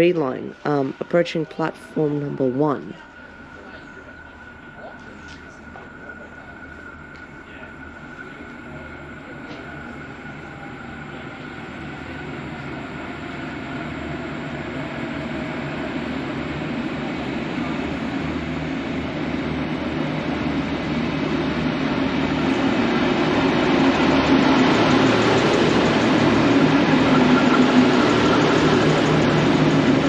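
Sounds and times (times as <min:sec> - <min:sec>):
diesel train engine hum: 0:00.0 - 0:30.0
rail noise: 0:00.0 - 0:30.0.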